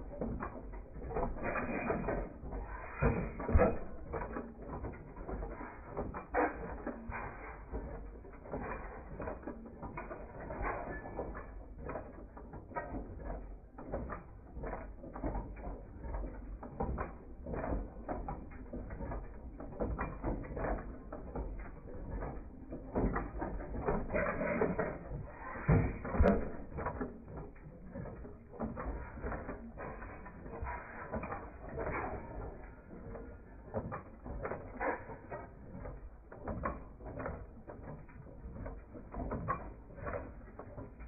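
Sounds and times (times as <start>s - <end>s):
machinery clattering and clicking: 0.0s - 41.0s.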